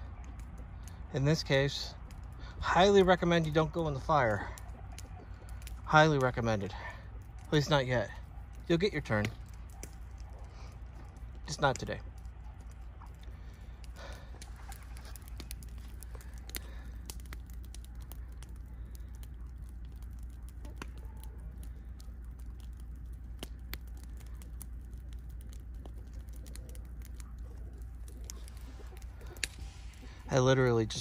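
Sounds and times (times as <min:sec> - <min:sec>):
branches burning and crackling: 0:00.0 - 0:31.0
low fire rumble: 0:00.0 - 0:31.0.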